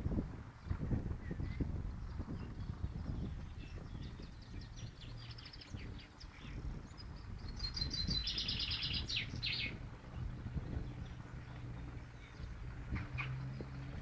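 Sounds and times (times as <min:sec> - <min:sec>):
low background rumble: 0:00.0 - 0:14.0
songbirds singing: 0:00.0 - 0:14.0.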